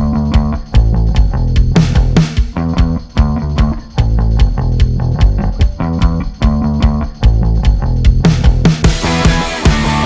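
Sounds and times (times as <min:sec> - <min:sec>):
music with guitar and bass: 0:00.0 - 0:10.0.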